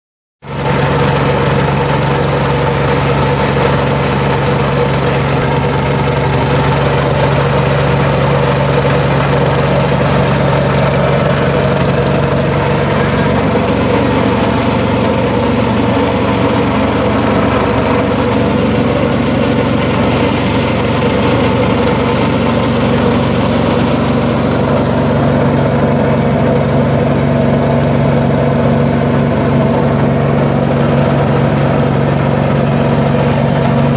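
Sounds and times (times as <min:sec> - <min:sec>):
small boat engine humming: 0:00.5 - 0:33.9.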